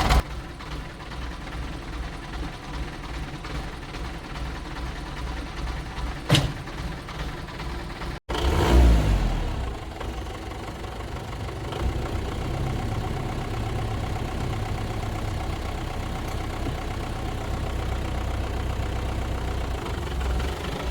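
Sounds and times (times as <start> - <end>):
old car engine idling and revving: 0.0 - 20.9.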